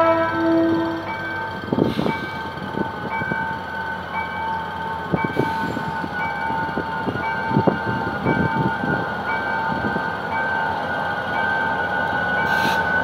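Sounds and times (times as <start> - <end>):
crossing warning tone with beeps: 0.0 - 13.0
locomotive engine and wheels rumbling: 0.0 - 13.0.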